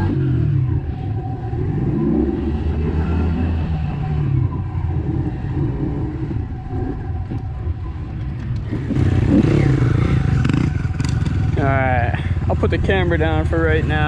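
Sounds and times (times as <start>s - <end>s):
pit bike engine running: 0.0s - 14.0s.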